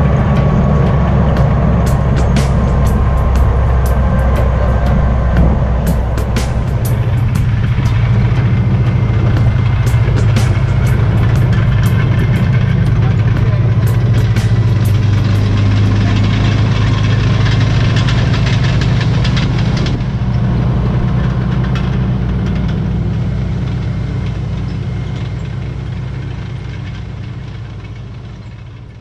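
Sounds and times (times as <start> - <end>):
rattling: 0.0 - 29.0
tank engine deep drone: 0.0 - 29.0.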